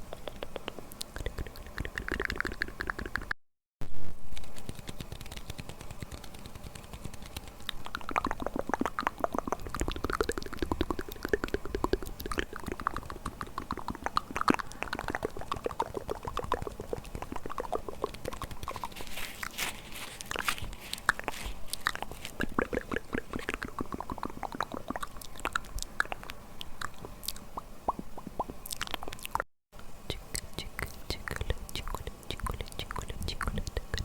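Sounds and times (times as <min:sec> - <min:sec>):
wet mouth clicks and smacks: 0:00.0 - 0:03.3, 0:04.6 - 0:19.0, 0:20.2 - 0:29.4, 0:30.4 - 0:34.0.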